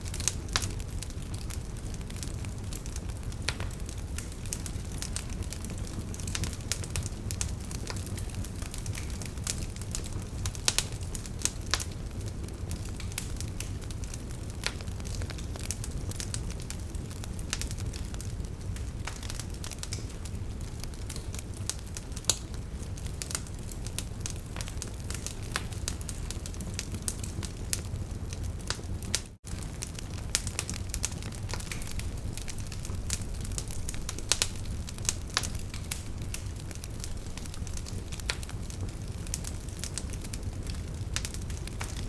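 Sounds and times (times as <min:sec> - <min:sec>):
wood fire crackling and popping: 0:00.0 - 0:42.0.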